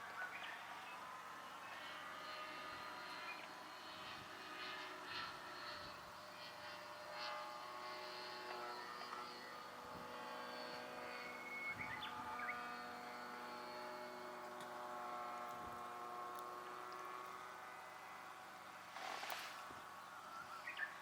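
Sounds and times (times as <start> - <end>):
model airplane motor and propeller: 0.0 - 21.0.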